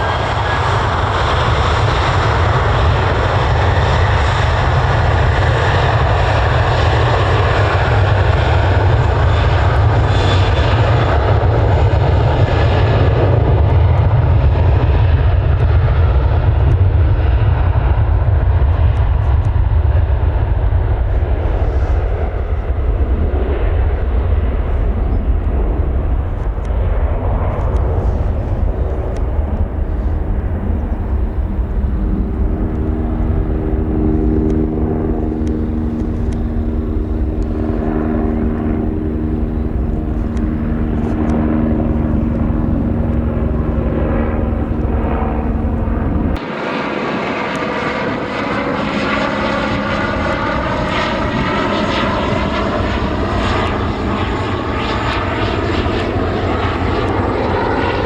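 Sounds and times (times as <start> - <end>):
aircraft engines rumbling: 0.0 - 58.0
aircraft passing with falling tones: 0.0 - 58.0.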